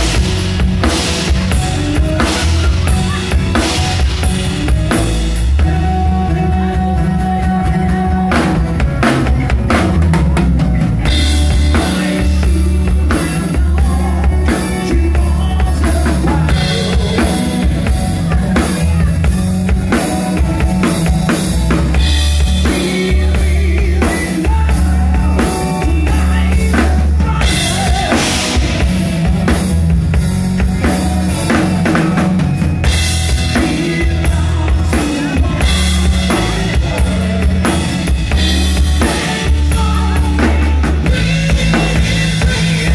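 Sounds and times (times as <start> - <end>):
acoustic bass guitar: 0.0 - 42.9
drum kit beat: 0.0 - 42.9.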